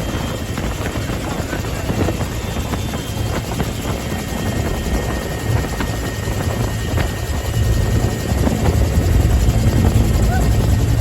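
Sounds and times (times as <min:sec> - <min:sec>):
helicopter rotor and turbine rumble: 0:00.0 - 0:11.0.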